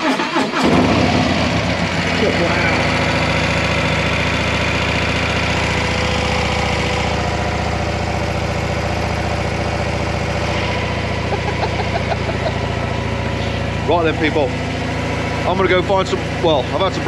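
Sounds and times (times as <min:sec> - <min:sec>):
motorcycle engine idling: 0:00.6 - 0:17.0.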